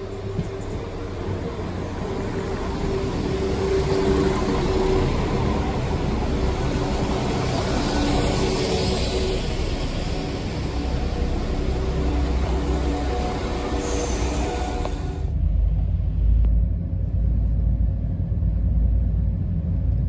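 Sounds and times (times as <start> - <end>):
train diesel engines running: 0.0 - 20.0
wheels rumbling on rails: 0.0 - 20.0.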